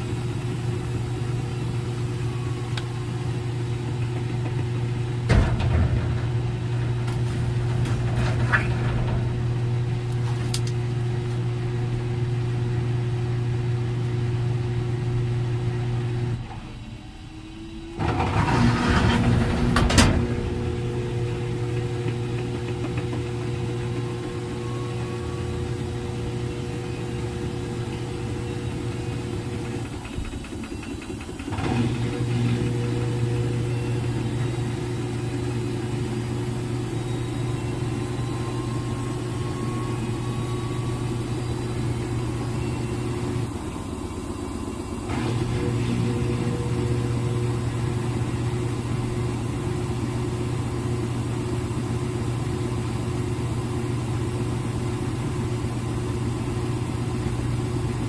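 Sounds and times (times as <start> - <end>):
washing machine spin cycle: 0.0 - 58.0.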